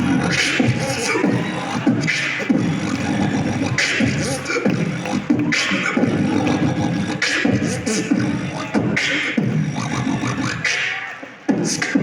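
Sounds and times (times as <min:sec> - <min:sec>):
beatboxing into a microphone: 0:00.0 - 0:12.0.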